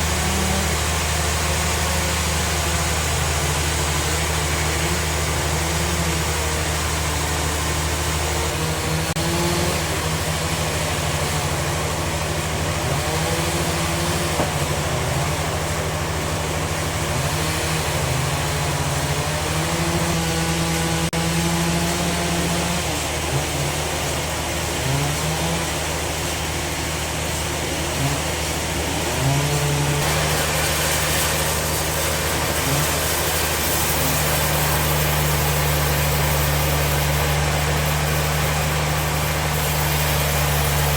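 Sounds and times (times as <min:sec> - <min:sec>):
band saw machinery humming: 0:00.0 - 0:40.9.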